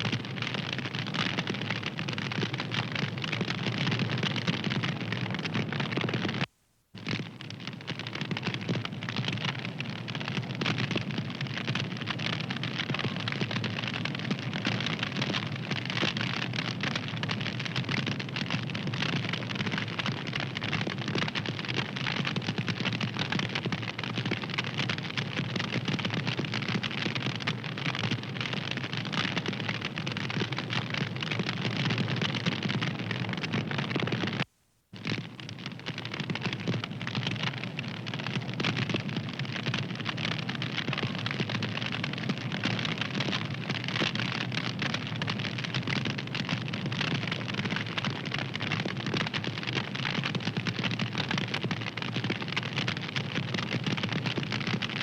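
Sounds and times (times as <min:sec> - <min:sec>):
wood fire crackling: 0:00.0 - 0:54.7.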